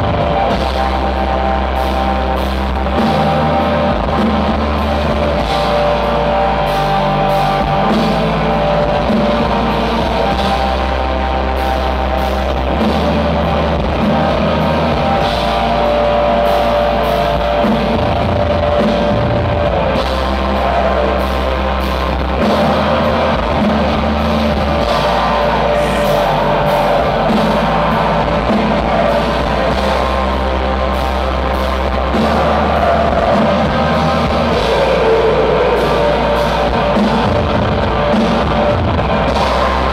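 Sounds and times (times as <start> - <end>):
dense drumming: 0.0 - 39.9
distorted electric guitars: 0.0 - 39.9
sustained bass notes: 0.0 - 39.9.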